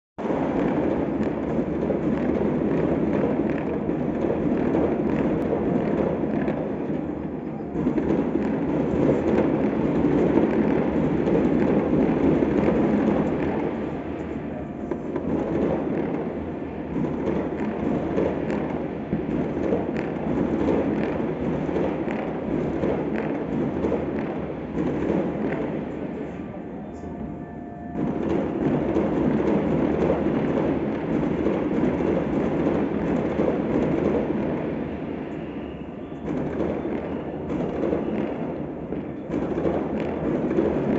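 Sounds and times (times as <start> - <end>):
distant firecrackers popping: 0.2 - 40.9.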